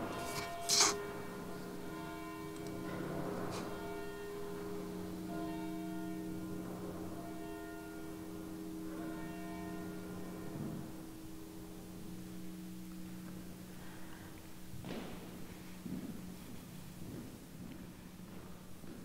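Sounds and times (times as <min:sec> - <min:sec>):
church bell tolling: 0:00.0 - 0:17.0.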